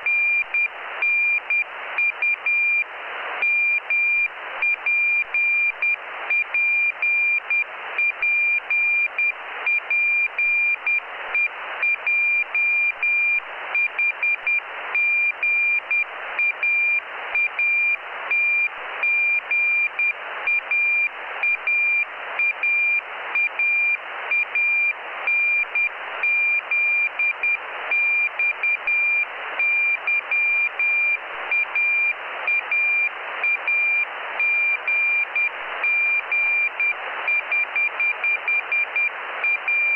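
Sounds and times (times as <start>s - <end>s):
receiver hiss: 0.0s - 39.9s.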